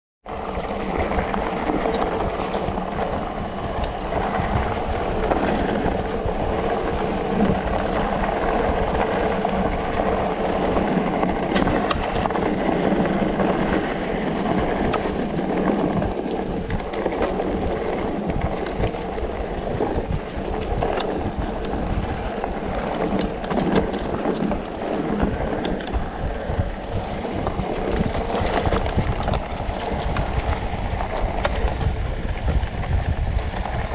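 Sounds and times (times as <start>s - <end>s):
bike clicks and rattles: 0.3s - 33.9s
tyres rumbling on gravel: 0.3s - 33.9s
wind on microphone: 0.3s - 33.9s.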